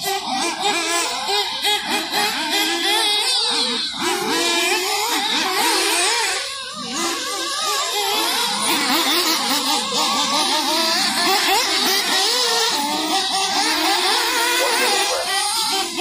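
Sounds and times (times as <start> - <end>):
rc buggy engines revving: 0.0 - 16.0.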